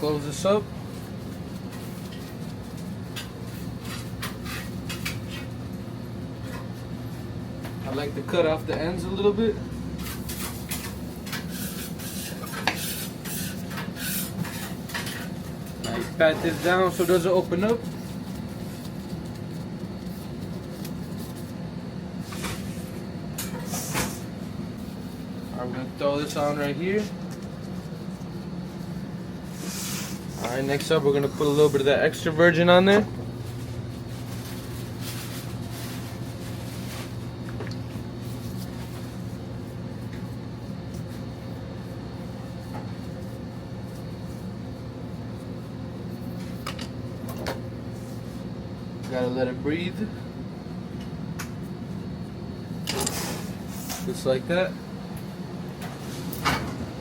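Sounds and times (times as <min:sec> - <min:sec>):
soft handling of dough: 0:00.0 - 0:56.3
restaurant kitchen hum: 0:00.0 - 0:57.0.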